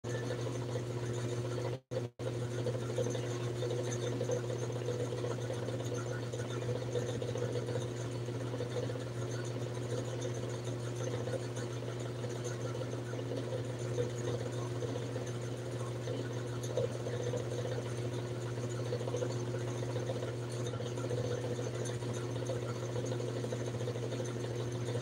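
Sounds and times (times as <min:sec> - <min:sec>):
small motor humming: 0:00.0 - 0:25.0.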